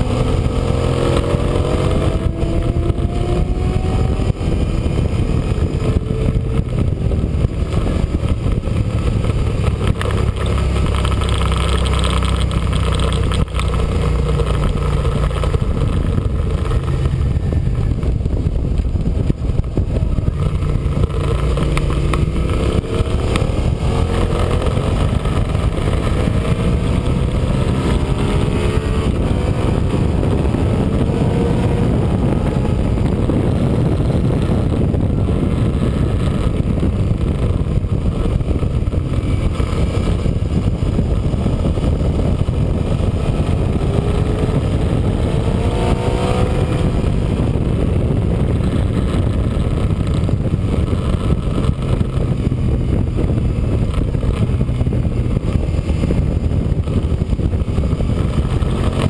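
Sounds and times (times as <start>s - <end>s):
heavy wind rush: 0.0s - 59.0s
motorcycle engine revving: 0.0s - 59.0s.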